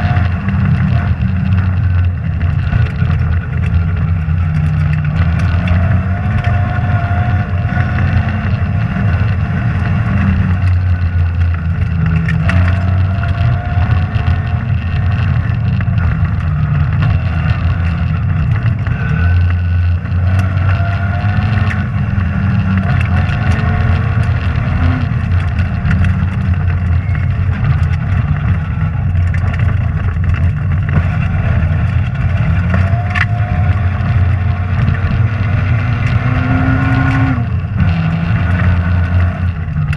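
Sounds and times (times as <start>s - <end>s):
rally car engine under load: 0.0s - 39.9s
road and tyre noise: 0.0s - 39.9s.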